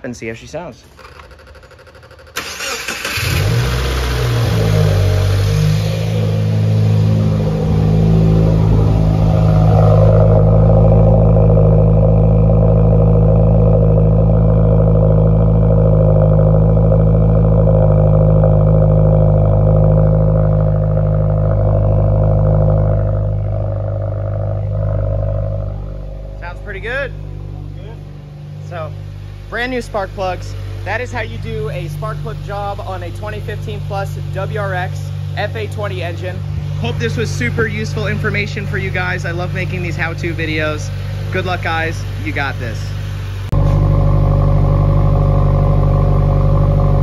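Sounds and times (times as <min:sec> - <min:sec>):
car engine starting and idling: 0:00.0 - 0:47.0.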